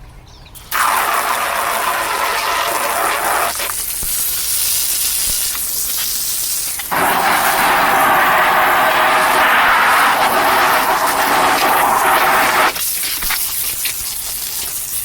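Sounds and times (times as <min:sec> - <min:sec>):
hose spraying water jet: 0:00.6 - 0:15.0.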